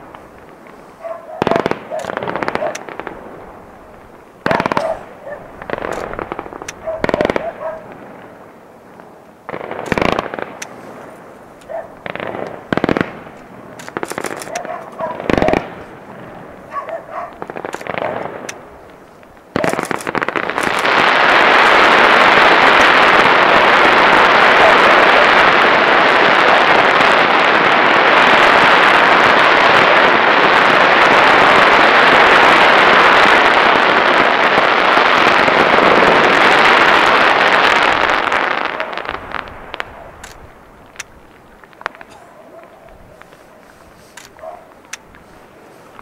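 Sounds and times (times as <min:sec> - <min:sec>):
firework bangs: 0:00.0 - 0:08.8, 0:09.4 - 0:46.0
crackling fireworks barrage: 0:00.0 - 0:46.0.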